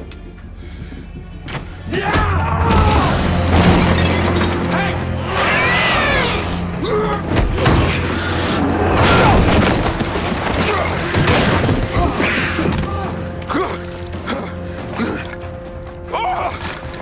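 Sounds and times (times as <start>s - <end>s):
low ominous music: 0.0s - 17.0s.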